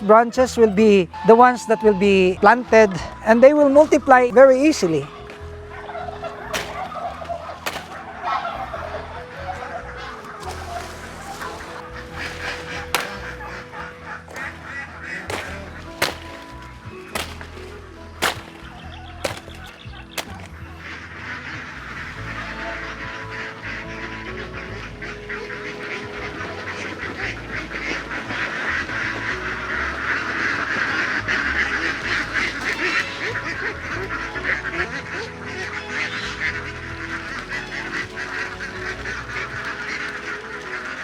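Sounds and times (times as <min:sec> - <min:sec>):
flock of ducks calling: 0:00.0 - 0:41.0.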